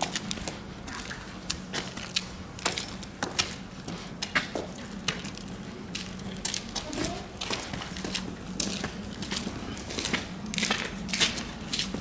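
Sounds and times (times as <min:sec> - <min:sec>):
footsteps on stone steps: 0:00.0 - 0:12.0
steady low hum: 0:00.0 - 0:12.0.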